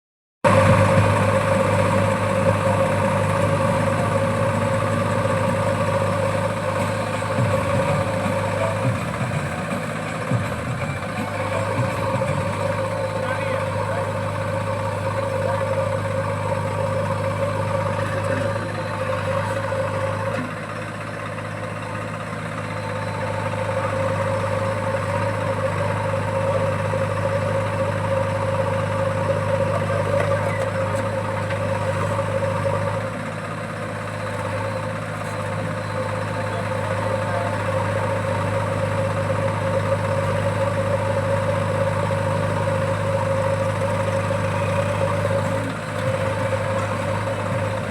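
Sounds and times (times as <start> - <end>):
diesel engine of earth-moving machinery: 0.4 - 47.9.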